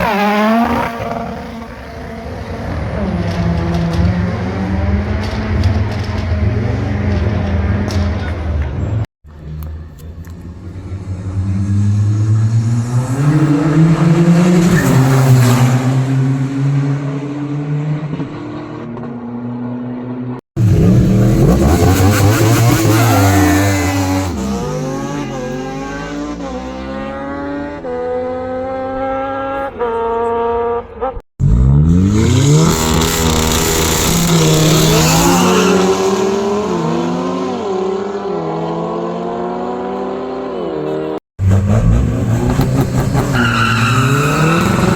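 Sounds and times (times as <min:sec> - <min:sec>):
car engines accelerating hard: 0:00.0 - 0:44.9.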